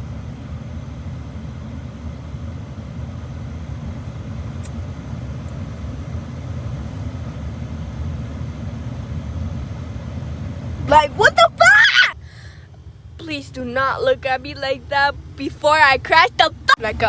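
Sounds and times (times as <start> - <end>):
vehicle idling rumble: 0.0 - 17.0.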